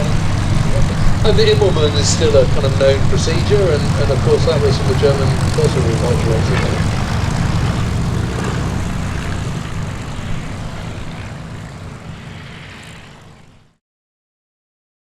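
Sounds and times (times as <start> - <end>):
propeller plane engine in flight: 0.0 - 13.8.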